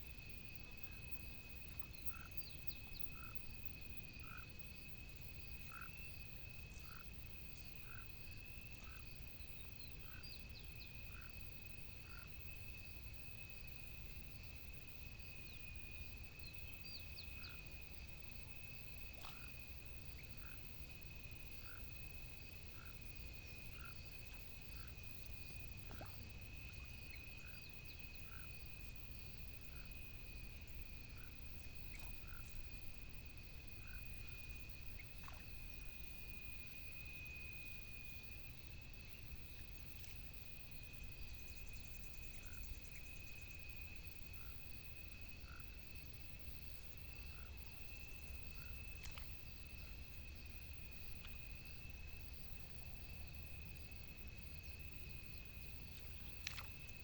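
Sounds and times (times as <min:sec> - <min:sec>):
frogs calling: 0:00.0 - 0:12.9, 0:14.3 - 0:57.0.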